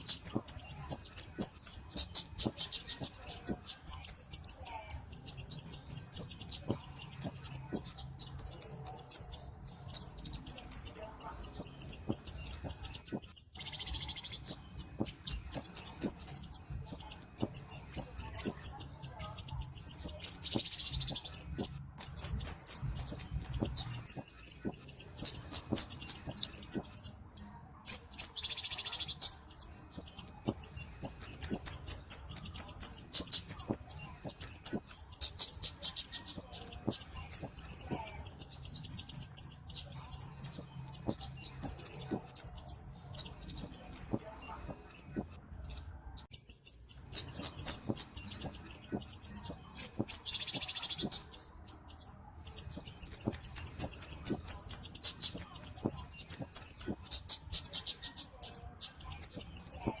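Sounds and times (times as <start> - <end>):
bird high-pitched chirps: 0.0 - 60.0.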